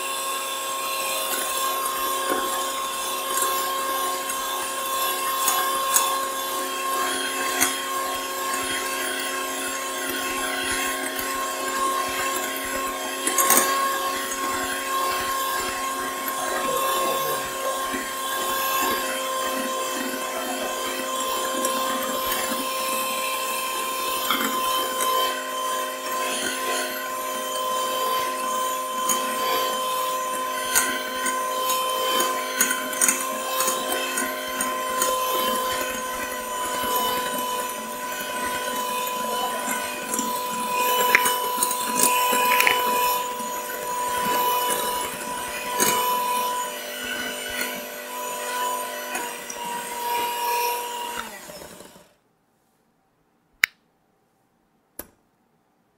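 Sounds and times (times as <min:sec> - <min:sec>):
electric hand mixer whining: 0:00.0 - 0:52.2.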